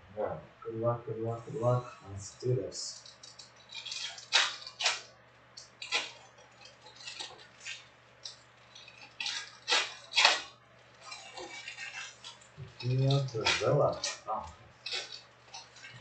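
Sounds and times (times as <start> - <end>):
foil wrappers tearing and crinkling: 3.0 - 16.0.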